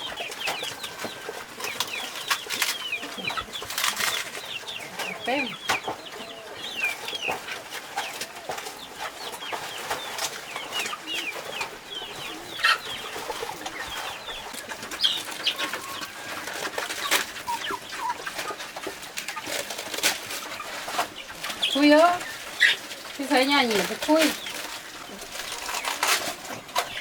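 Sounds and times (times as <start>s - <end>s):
chickens clucking and peeping: 0.0s - 27.0s.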